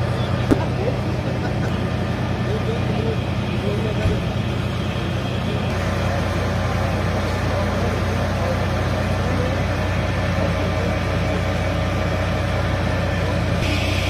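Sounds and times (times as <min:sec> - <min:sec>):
engine running low hum: 0:00.0 - 0:14.0.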